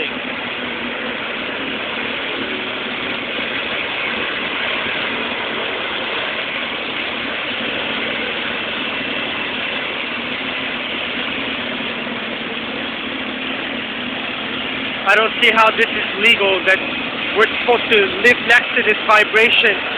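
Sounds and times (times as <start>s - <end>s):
engine noise: 0.0s - 19.9s.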